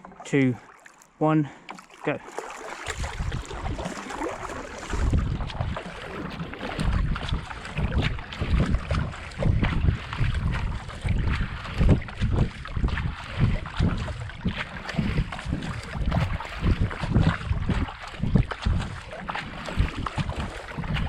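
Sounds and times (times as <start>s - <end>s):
paddle blades splashing in water: 0.0s - 21.0s
wind buffeting microphone: 2.7s - 21.0s.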